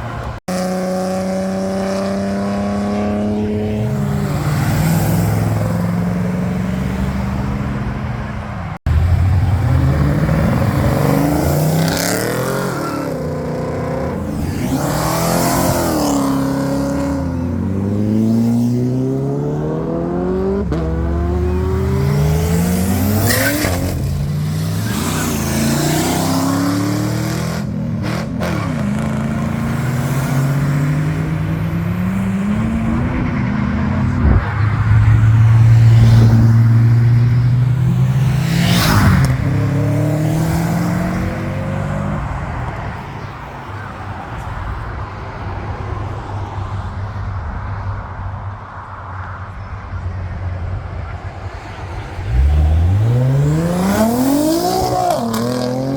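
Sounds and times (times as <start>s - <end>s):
car engines revving: 0.0s - 55.9s.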